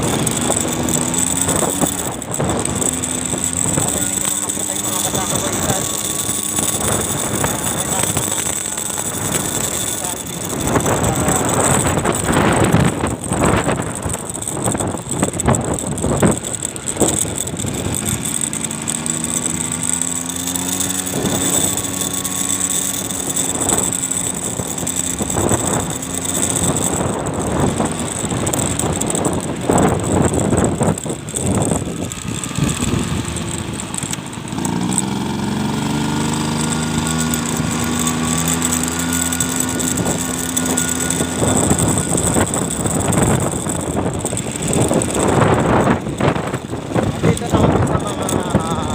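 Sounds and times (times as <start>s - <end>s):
wind buffeting microphone: 0.0s - 22.2s, 23.3s - 48.9s
vehicle engine accelerating: 0.0s - 48.9s.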